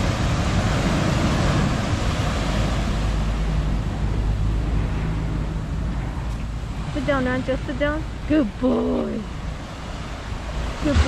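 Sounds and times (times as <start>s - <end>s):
ocean surf washing: 0.0s - 11.0s
wind rumbling on microphone: 0.0s - 11.0s.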